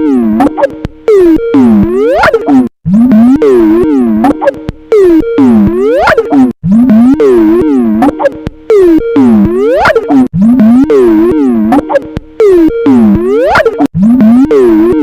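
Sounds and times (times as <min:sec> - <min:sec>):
distorted ringtone swooping in pitch: 0:00.0 - 0:15.0.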